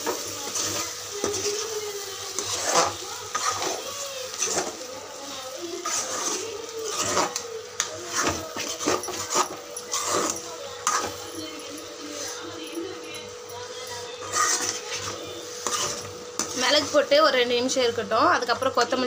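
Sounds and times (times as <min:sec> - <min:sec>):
wooden spatula scraping pan: 0:00.0 - 0:12.6, 0:13.8 - 0:17.4.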